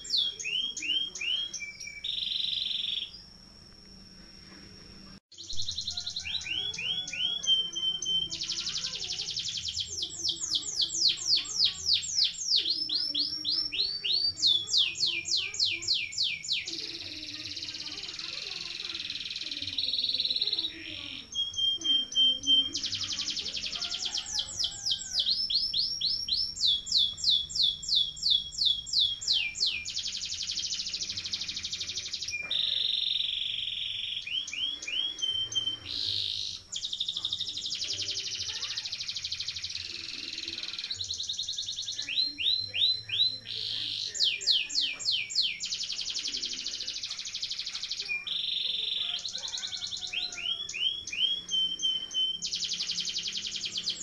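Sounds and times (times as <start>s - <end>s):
canary singing trills: 0.0s - 4.2s, 5.3s - 54.0s.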